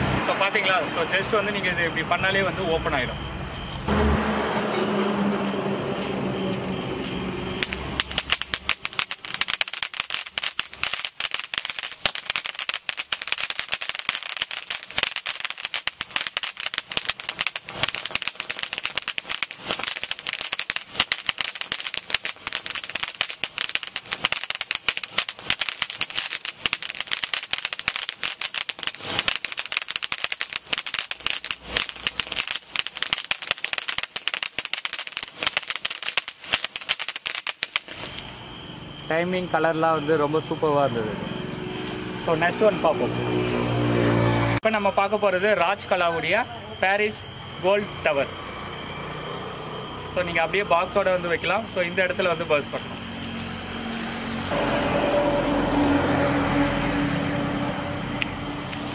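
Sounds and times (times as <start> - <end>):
firework fountain crackling: 0.0 - 40.7, 44.6 - 58.9.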